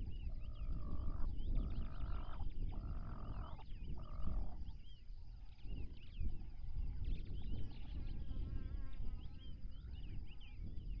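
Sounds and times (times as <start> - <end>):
wind rumbling on microphone: 0.0 - 4.9, 5.5 - 11.0.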